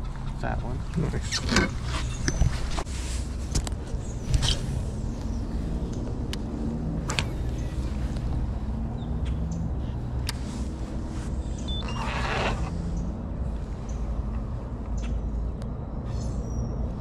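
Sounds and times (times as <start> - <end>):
boat motor humming: 0.0 - 15.9.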